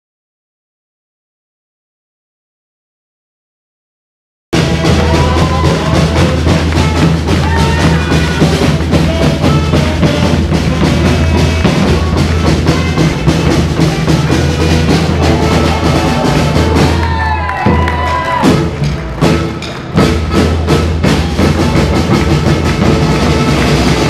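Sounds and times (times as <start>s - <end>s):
music with drum beat and bass: 4.6s - 24.0s.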